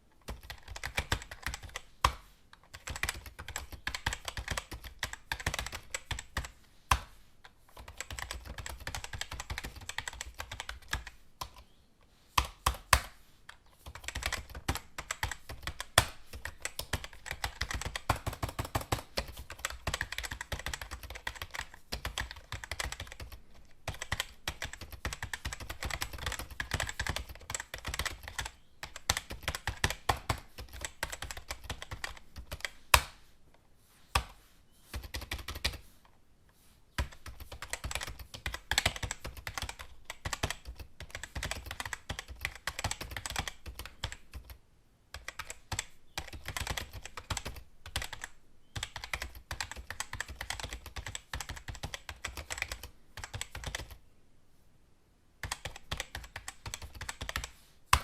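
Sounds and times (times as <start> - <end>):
typing on computer keyboard: 0.2 - 7.0, 7.7 - 11.6, 13.8 - 33.1, 34.9 - 35.8, 37.0 - 54.0, 55.4 - 58.0.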